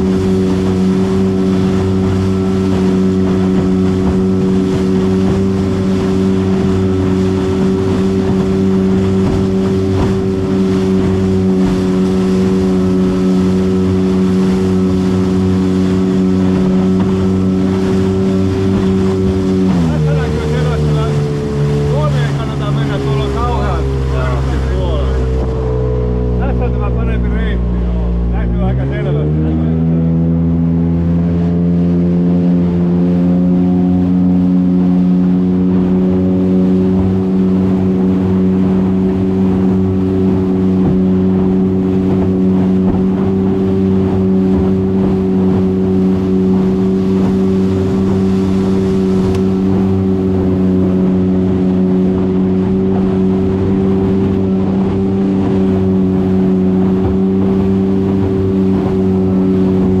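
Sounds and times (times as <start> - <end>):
motorboat engine running: 0.0 - 60.0
water splashing against hull: 0.0 - 60.0.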